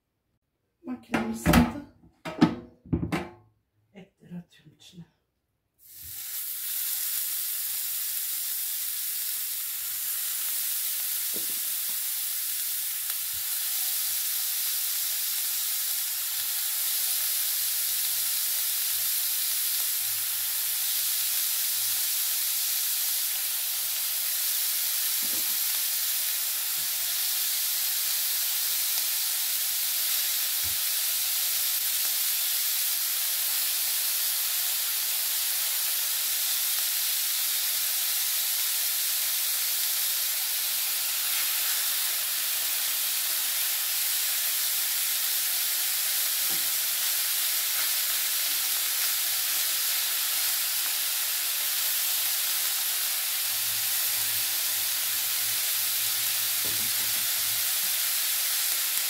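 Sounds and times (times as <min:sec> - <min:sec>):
meat sizzling on a grill: 0:05.8 - 0:59.0.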